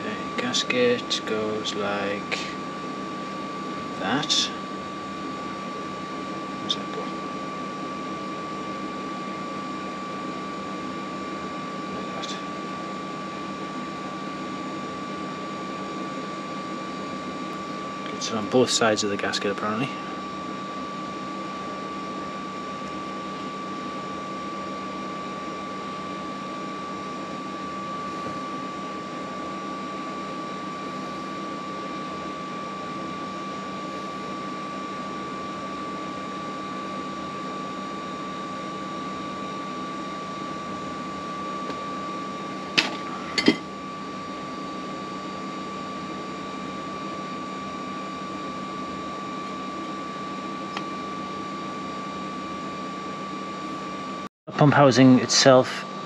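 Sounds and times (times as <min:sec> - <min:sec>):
machine hum with high whine: 0:00.0 - 0:56.0.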